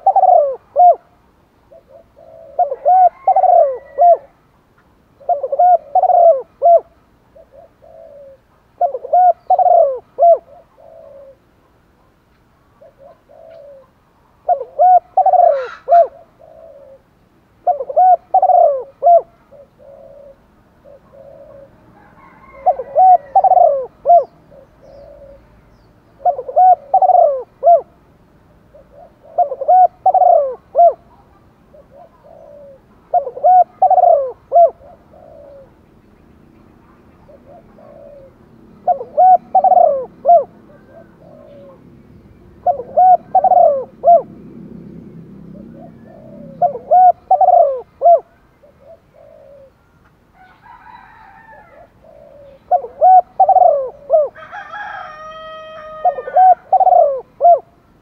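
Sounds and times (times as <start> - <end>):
dove cooing: 0.0 - 4.4, 5.2 - 12.1, 12.7 - 25.6, 26.2 - 28.0, 28.6 - 35.8, 37.1 - 49.8, 50.4 - 57.8.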